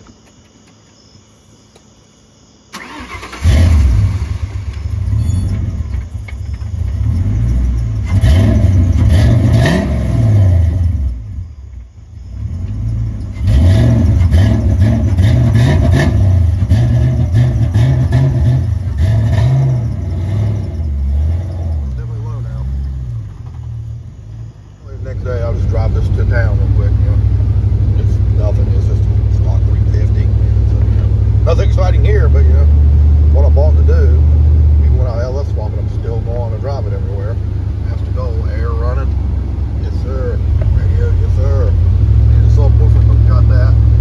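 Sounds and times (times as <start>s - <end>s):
vehicle engine starting and revving: 2.7s - 11.6s, 12.2s - 44.0s.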